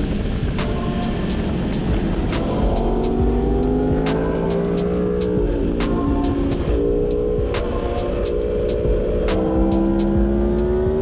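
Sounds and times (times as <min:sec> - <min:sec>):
music with sharp percussion: 0:00.0 - 0:11.0.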